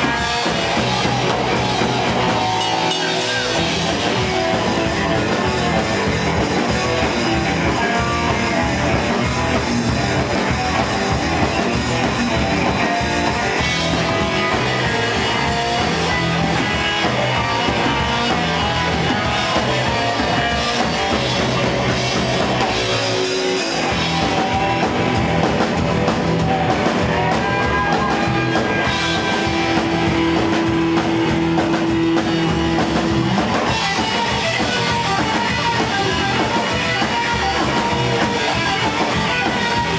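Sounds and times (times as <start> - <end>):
drum kit: 0.0 - 39.9
electric guitar: 0.0 - 39.9
upright bass: 0.0 - 39.9.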